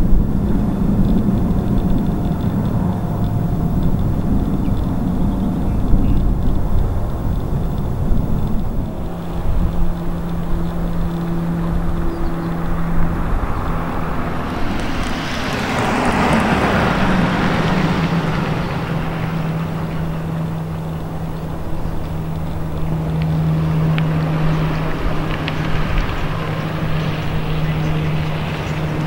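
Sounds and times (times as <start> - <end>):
engine and traffic noise: 0.0 - 29.0
rushing noise: 0.0 - 29.0
steady low hum: 0.0 - 29.0
wind rumbling on microphone: 0.0 - 29.0.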